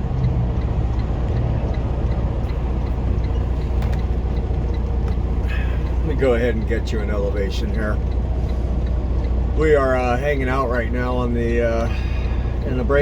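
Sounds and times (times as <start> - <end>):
diesel engine idling: 0.0 - 13.0
faint ticking: 0.0 - 13.0.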